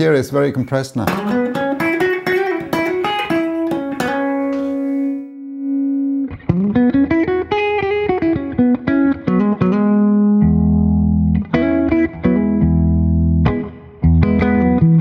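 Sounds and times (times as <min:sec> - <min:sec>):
compressed electric guitar notes: 0:01.1 - 0:15.0.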